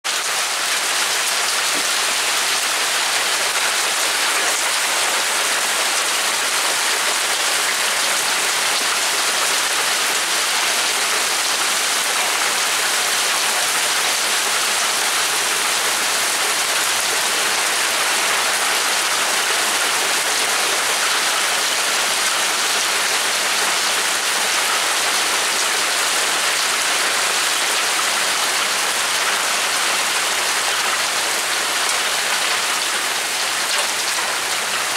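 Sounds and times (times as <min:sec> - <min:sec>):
hail and rain falling: 0:00.0 - 0:34.9.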